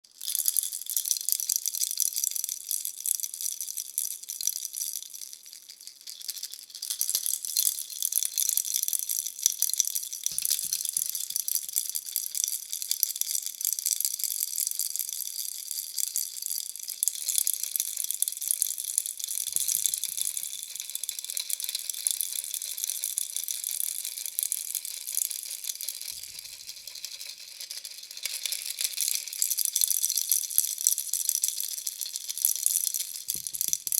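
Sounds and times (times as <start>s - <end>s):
baby rattle shaken: 3.6s - 13.6s, 14.4s - 33.9s.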